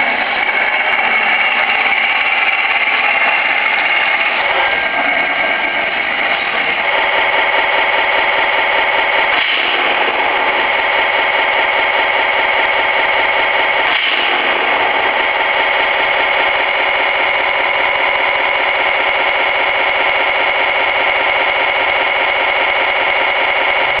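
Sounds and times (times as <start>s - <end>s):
simulated tank engine from small speaker: 0.0s - 24.0s.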